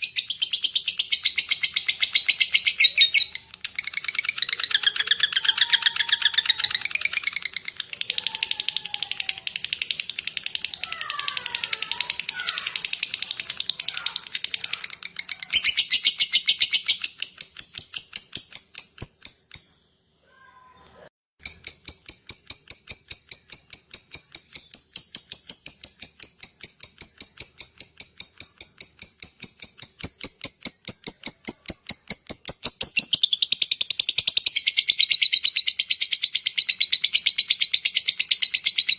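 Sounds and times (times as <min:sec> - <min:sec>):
lovebird chattering chips: 0:00.0 - 0:19.7, 0:21.4 - 0:38.9.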